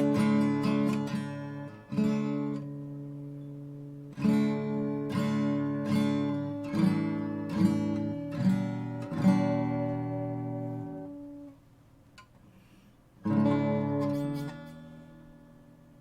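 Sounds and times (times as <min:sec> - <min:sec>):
acoustic guitar strumming: 0:00.0 - 0:11.6, 0:13.2 - 0:16.0.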